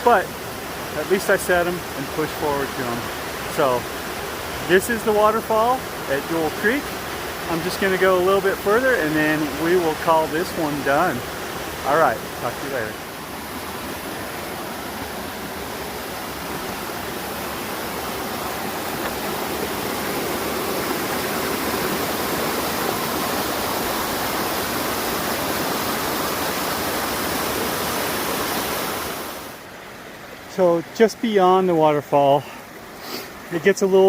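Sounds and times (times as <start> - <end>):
waterfall splashing and rushing: 0.0 - 34.0.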